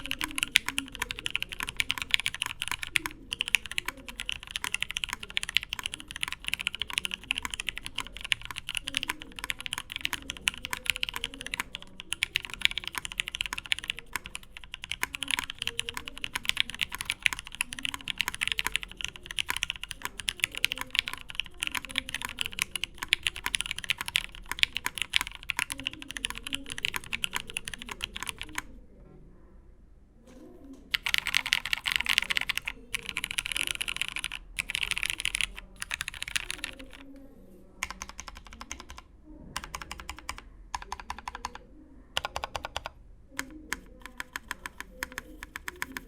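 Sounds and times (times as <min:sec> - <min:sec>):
mechanical keyboard typing: 0:00.0 - 0:28.7, 0:30.9 - 0:41.6, 0:42.2 - 0:46.0.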